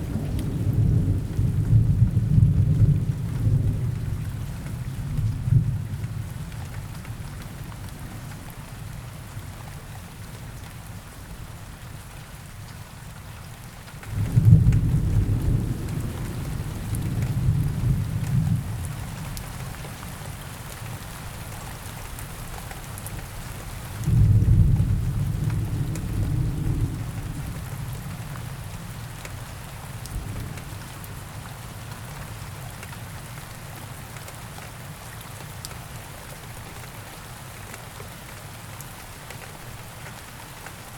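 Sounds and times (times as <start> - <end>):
steady forest rain: 0.0 - 40.9.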